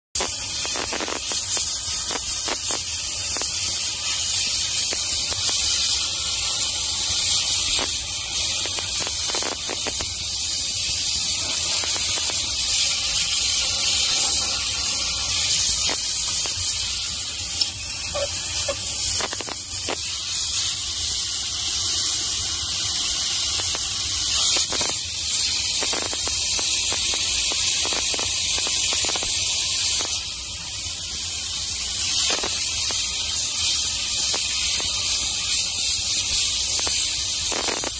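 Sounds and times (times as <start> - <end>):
steam cleaner hissing: 0.2 - 37.9.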